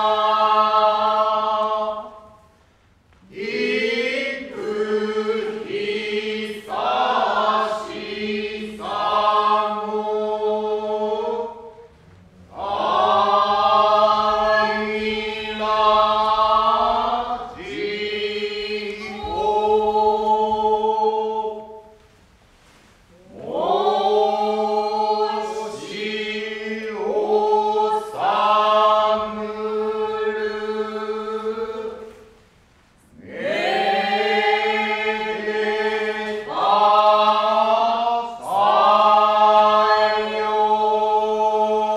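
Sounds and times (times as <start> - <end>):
voices chanting in unison: 3.2 - 11.9, 12.5 - 22.0, 23.1 - 32.3, 33.1 - 41.9.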